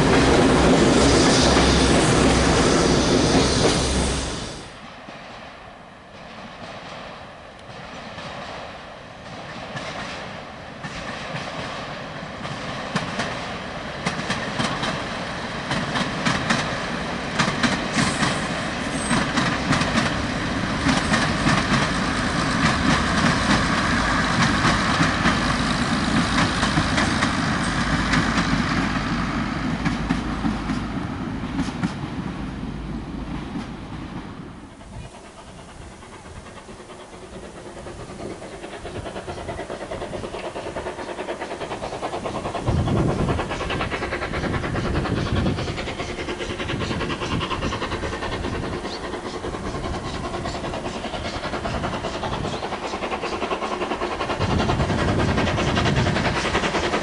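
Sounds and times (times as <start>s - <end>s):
train wheels clicking over rail joints: 0.0s - 5.4s, 6.0s - 57.0s
outdoor background: 0.0s - 57.0s
train engines running: 0.0s - 57.0s.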